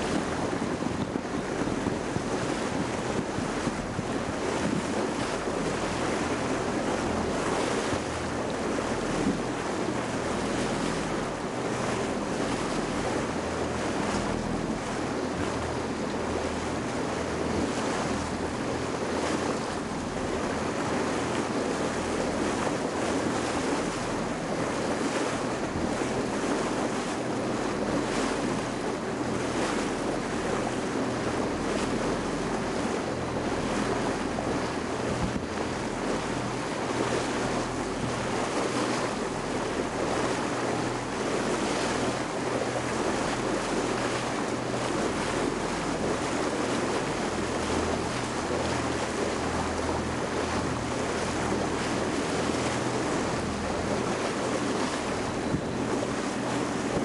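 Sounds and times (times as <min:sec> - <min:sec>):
water washing around a boat: 0:00.0 - 0:57.0
wind buffeting the microphone: 0:00.0 - 0:57.0.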